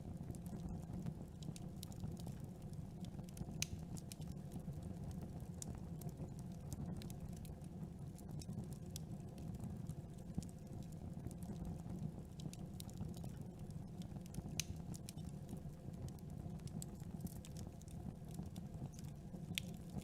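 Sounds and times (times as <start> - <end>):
wood crackling and popping: 0.1 - 20.0.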